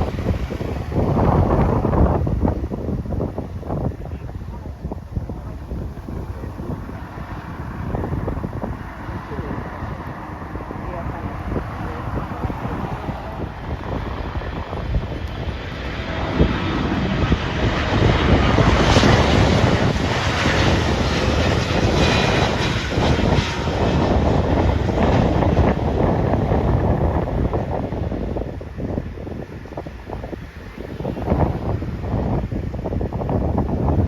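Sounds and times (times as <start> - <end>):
jet airliner engine roar: 0.0 - 34.0
wind on microphone: 0.0 - 34.0.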